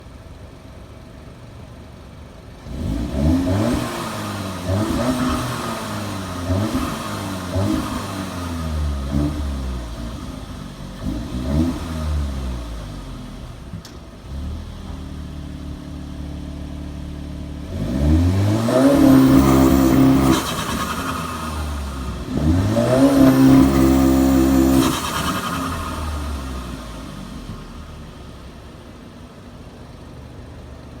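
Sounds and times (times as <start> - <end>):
car engine revving: 2.6 - 29.4.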